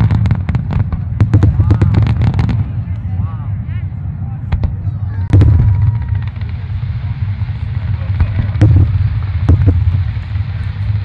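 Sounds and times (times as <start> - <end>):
fireworks bangs: 0.0 - 3.4, 4.4 - 11.0
steady low rumble: 0.0 - 11.0.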